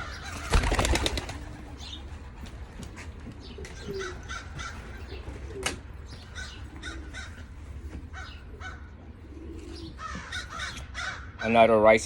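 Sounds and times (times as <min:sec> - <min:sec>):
high bird calls: 0:00.0 - 0:02.2, 0:03.4 - 0:11.7
steady low hum: 0:00.0 - 0:11.4
pigeons cooing: 0:00.0 - 0:11.6.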